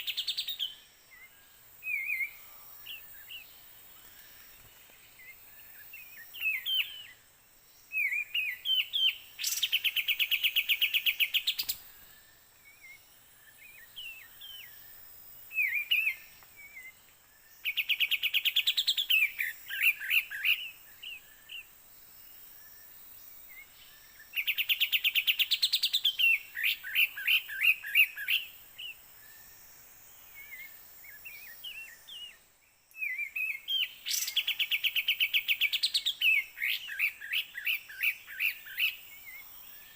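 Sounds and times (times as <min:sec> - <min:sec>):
scattered bird chirps and trills: 0:00.0 - 0:39.9.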